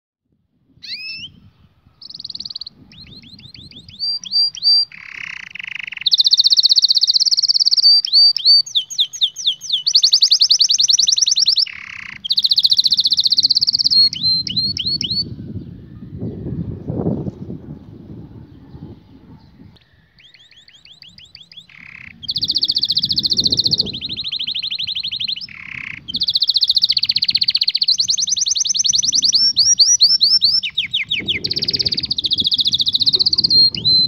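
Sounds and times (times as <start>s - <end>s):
canary singing: 0.8s - 15.3s, 19.8s - 34.0s.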